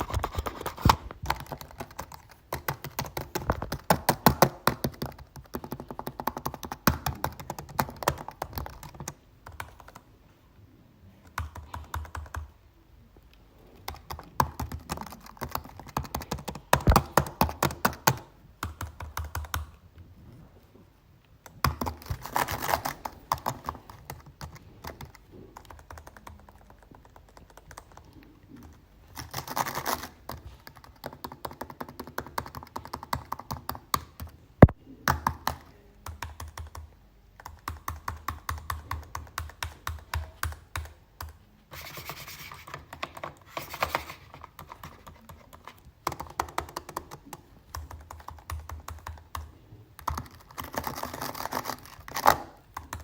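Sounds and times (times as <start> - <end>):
typing on computer keyboard: 0.0 - 10.1, 11.2 - 12.6, 13.6 - 19.8, 21.4 - 53.0.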